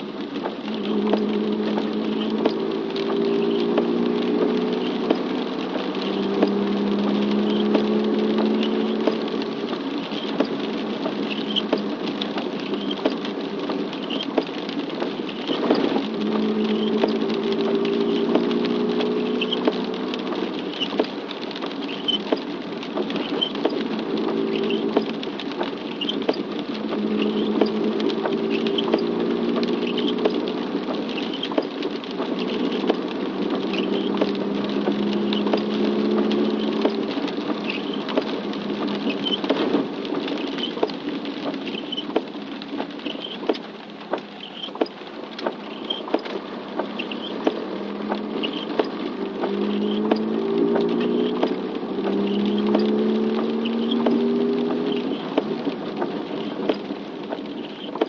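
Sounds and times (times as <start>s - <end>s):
engine hum: 0.0s - 58.0s
raindrops pattering: 0.0s - 58.0s.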